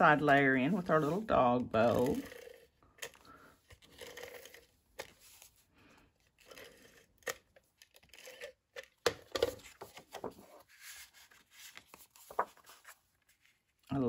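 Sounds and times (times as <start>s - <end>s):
cardstock rustling and scraping: 0.0s - 13.8s.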